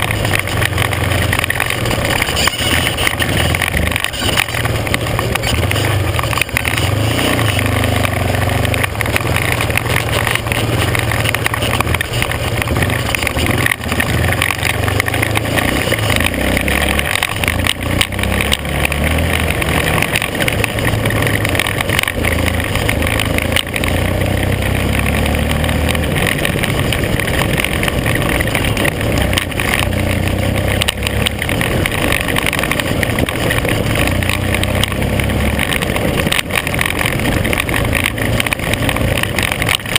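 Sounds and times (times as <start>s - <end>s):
off-road vehicle engine: 0.0s - 39.9s
road noise on gravel: 0.0s - 39.9s.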